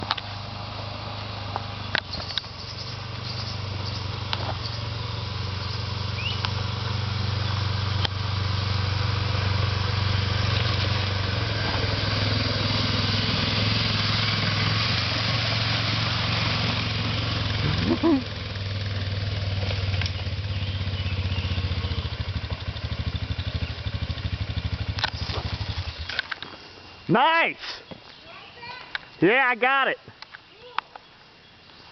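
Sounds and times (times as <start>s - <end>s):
motorcycle engine running: 0.0s - 27.1s.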